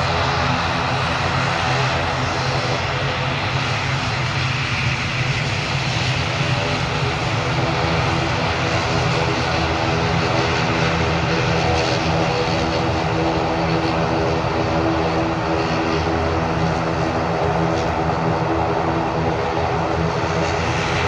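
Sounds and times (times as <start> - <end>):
airliner engines droning: 0.0 - 21.0.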